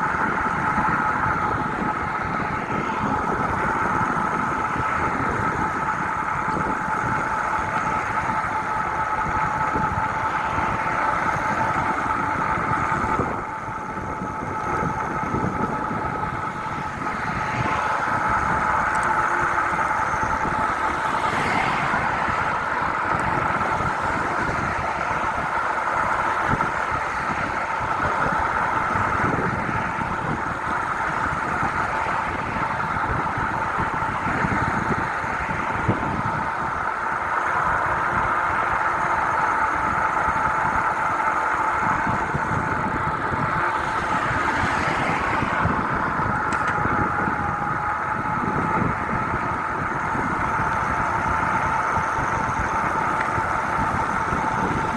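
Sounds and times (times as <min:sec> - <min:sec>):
bike riding hum: 0:00.0 - 0:54.9
steady whining tones: 0:00.0 - 0:54.9.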